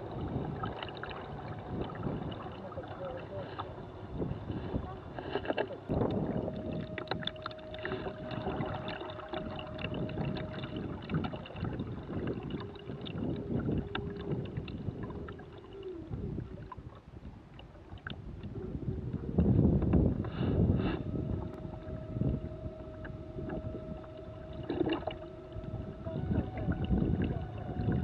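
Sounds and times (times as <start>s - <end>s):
faint steady hum: 0.0s - 28.0s
water washing against hulls: 0.0s - 28.0s
wind buffeting microphone: 0.0s - 28.0s.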